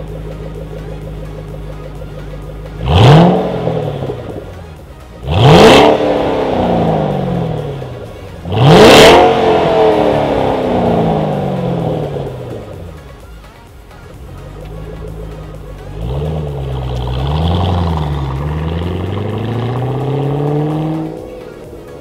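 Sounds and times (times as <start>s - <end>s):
car engine revving: 0.0s - 13.2s, 14.1s - 22.0s.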